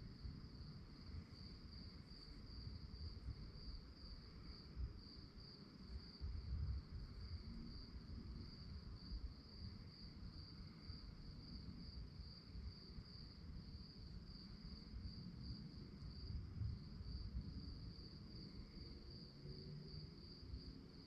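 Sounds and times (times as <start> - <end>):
crickets chirping: 0.0 - 21.0
faint low background rumble: 0.0 - 21.0.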